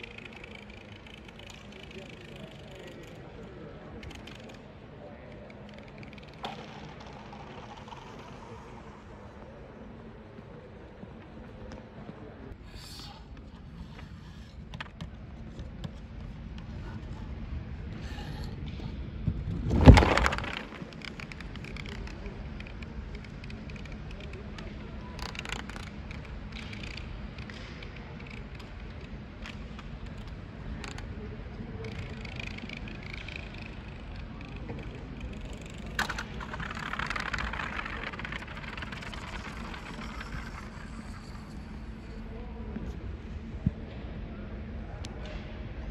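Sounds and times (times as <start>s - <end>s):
sports hall background noise: 0.0s - 45.9s.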